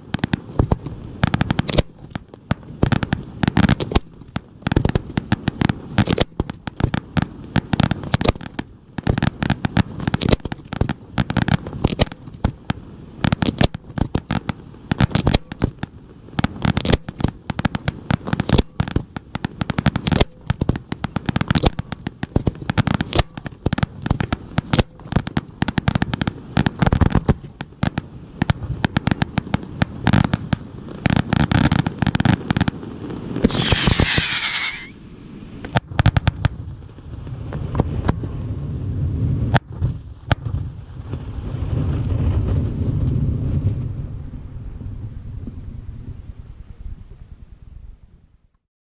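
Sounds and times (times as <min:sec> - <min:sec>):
firework bursts and bangs: 0:00.0 - 0:47.8
crackling firework hiss: 0:00.0 - 0:48.4.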